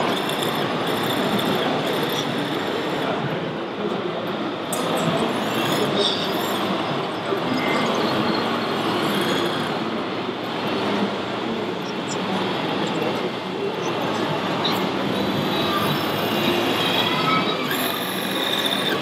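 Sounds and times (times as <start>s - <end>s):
large hall noise: 0.0s - 19.0s.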